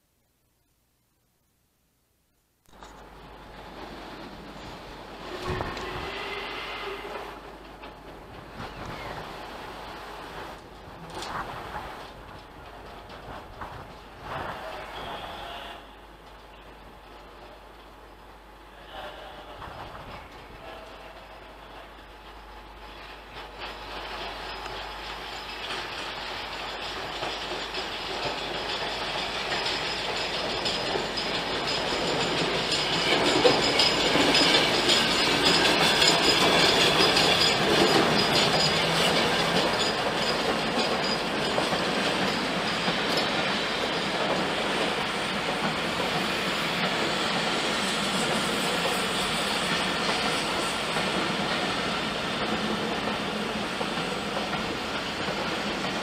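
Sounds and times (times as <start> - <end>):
steam locomotive running past: 3.0 - 56.0.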